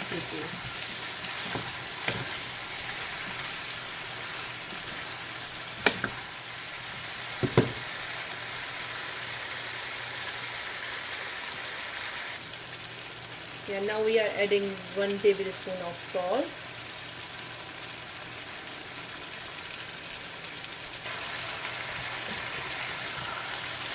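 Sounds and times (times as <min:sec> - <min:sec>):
food sizzling in a pot: 0:00.0 - 0:23.9.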